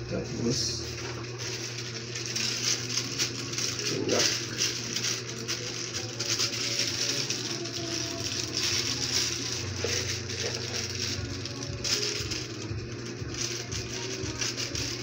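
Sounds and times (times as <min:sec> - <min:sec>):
steady low hum: 0:00.0 - 0:15.0
plastic packaging crinkling: 0:00.8 - 0:15.0.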